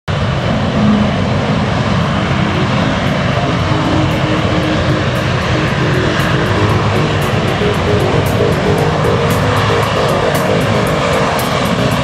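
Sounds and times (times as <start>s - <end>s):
aircraft engine rushing: 0.1s - 12.0s.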